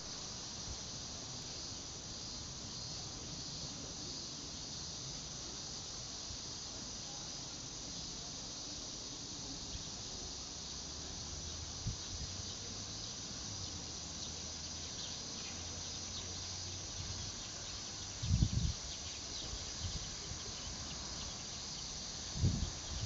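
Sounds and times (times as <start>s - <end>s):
insects chirring in trees: 0.0s - 23.0s.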